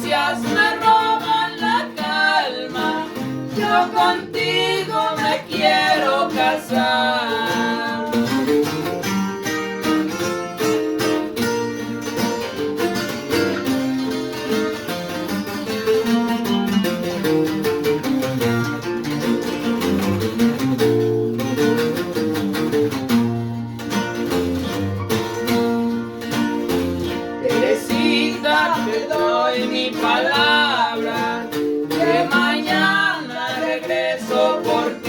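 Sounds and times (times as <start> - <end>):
guitar picking quick melody: 0.0 - 35.0.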